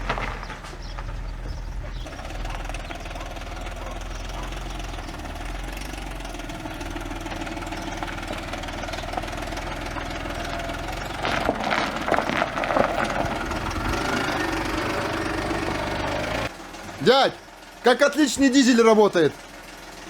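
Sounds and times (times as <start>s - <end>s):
car engine idling with knocking: 0.0s - 20.0s.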